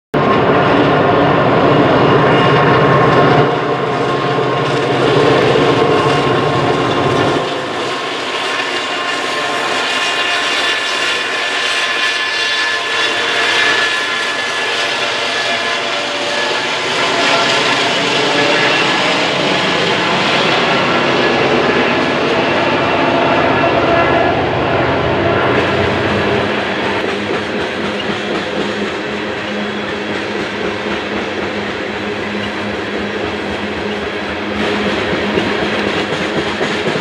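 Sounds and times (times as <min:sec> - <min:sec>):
diesel locomotive engine rumble: 0:00.1 - 0:37.0
steel wheels rolling on rail: 0:00.2 - 0:37.0
high wheel squeal: 0:01.6 - 0:37.0.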